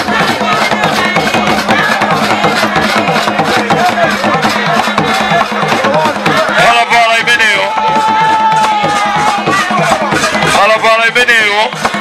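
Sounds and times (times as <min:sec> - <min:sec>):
drums beating fast rhythm: 0:00.0 - 0:12.0
voices singing: 0:00.0 - 0:12.0.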